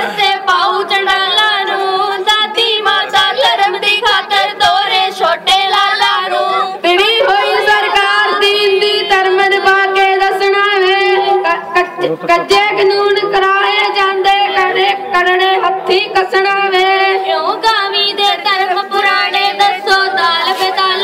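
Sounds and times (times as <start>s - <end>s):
children singing devotional song: 0.0s - 21.0s.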